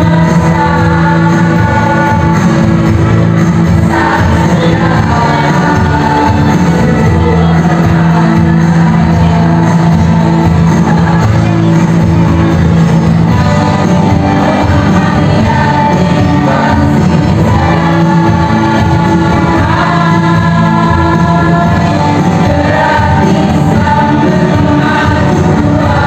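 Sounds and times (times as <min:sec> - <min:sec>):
women's choir singing: 0:00.0 - 0:26.0.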